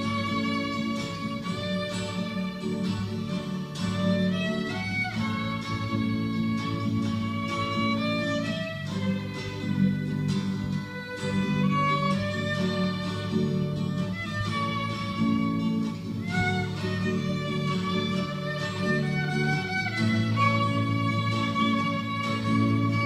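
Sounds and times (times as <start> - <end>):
sliding lead melody: 0.0 - 23.0.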